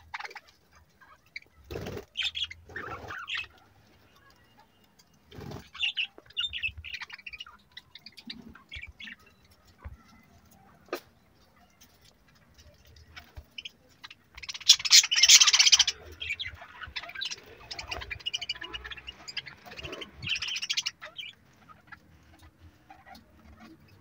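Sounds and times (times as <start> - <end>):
budgerigars chattering and squawking: 0.0 - 11.7, 12.6 - 24.0.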